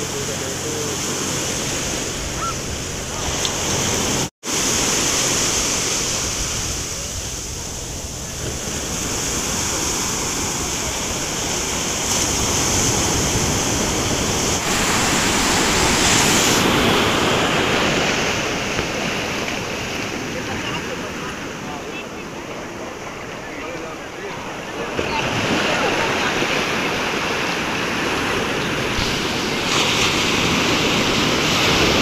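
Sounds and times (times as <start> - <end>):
waves breaking on sand: 0.0 - 32.0.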